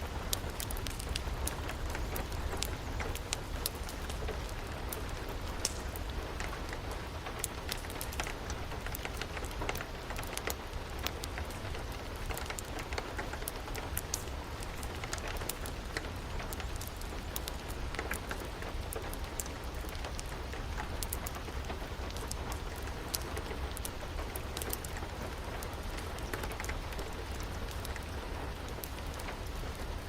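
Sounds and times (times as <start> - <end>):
steady rain: 0.0 - 30.0
wood fire crackling and popping: 0.0 - 30.0.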